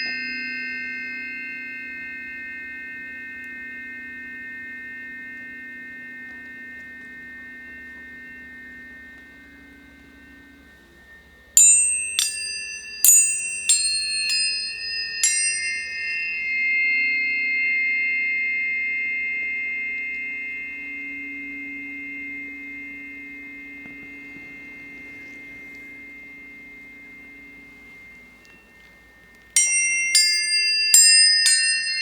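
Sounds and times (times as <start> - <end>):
low steady hum: 0.0 - 32.0
tuning forks ringing: 0.0 - 32.0.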